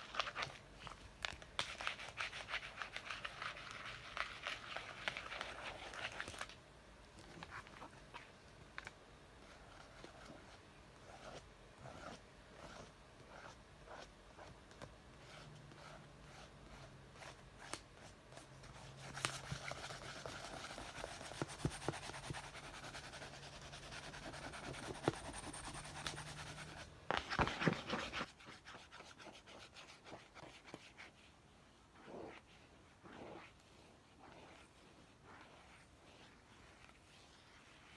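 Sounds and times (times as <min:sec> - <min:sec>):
scratching on a book: 0:00.0 - 0:06.5, 0:09.4 - 0:37.9.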